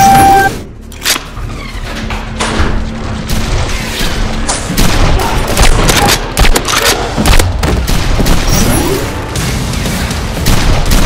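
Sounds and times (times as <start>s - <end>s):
background music: 0.0s - 1.3s, 2.1s - 11.0s.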